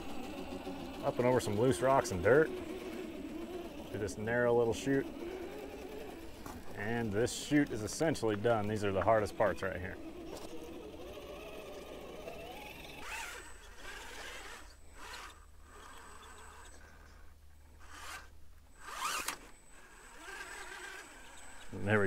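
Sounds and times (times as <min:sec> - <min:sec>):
tires scraping over rock: 0:00.0 - 0:19.5
electric motor whir: 0:00.0 - 0:22.0.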